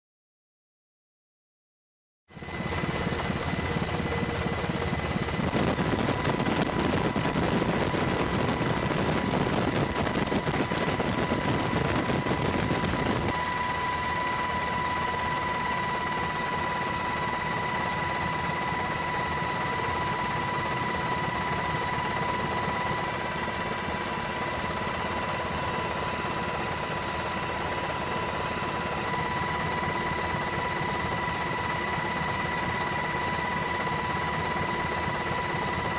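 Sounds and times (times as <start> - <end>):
helicopter engine and rotor: 2.3 - 35.9
high-pitched whine: 2.4 - 35.9.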